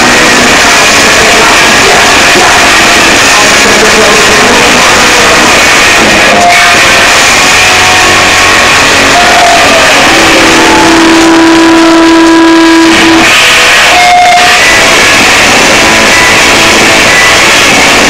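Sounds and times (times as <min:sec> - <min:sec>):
distorted electric guitar: 0:00.0 - 0:18.0
live rock music: 0:00.0 - 0:18.0.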